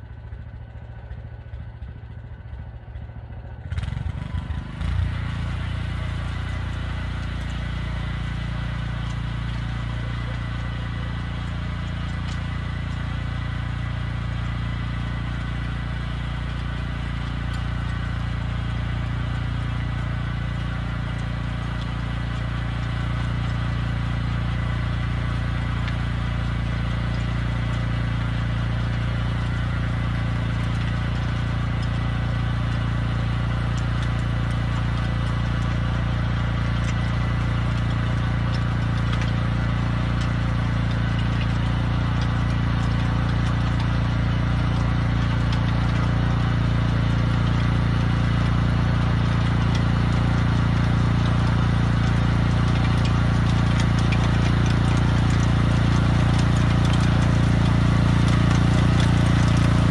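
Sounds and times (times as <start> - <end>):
cultivator engine running: 0.0 - 59.9.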